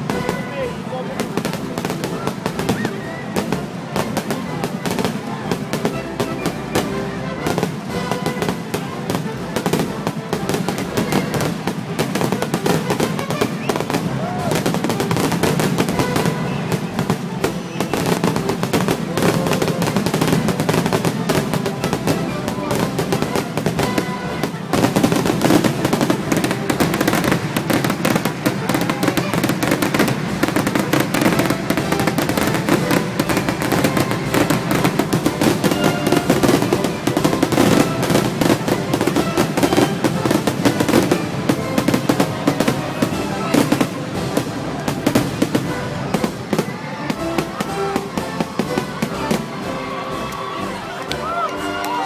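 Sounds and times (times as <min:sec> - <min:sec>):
crowd voices: 0:00.0 - 0:52.0
fireworks crackling and popping: 0:00.0 - 0:52.0
music: 0:00.0 - 0:52.0.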